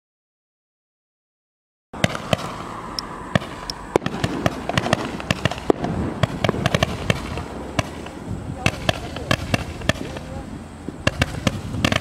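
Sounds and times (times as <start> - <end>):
firework hiss: 2.0 - 12.0
firework shots: 2.0 - 12.0.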